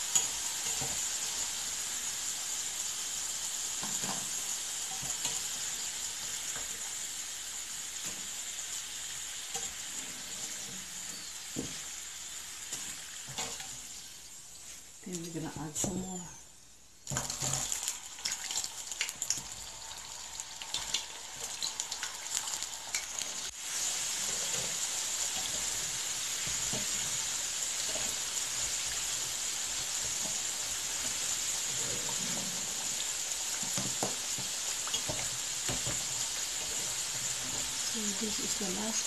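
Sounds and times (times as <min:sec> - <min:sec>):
potatoes frying in oil: 0:00.0 - 0:39.0.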